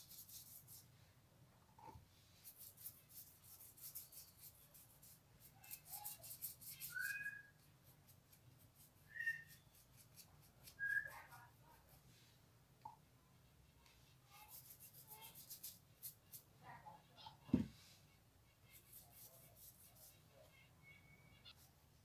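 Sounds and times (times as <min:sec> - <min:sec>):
paintbrush scratchy strokes: 0:00.0 - 0:00.9, 0:02.1 - 0:12.4, 0:13.4 - 0:16.5, 0:17.2 - 0:20.7.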